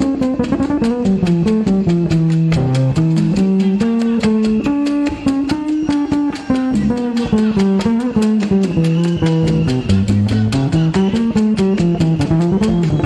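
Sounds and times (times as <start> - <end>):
busy percussion: 0.0 - 13.0
electric bass line: 0.0 - 13.0.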